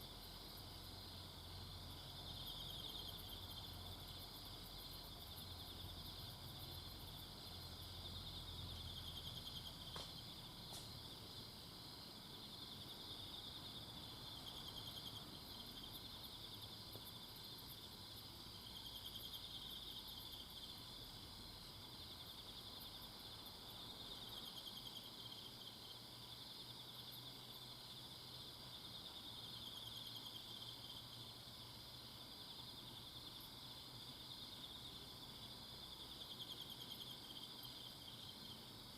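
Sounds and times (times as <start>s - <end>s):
high ticking insect calls: 0.0s - 38.9s
insects pulsing high trill: 0.0s - 38.9s.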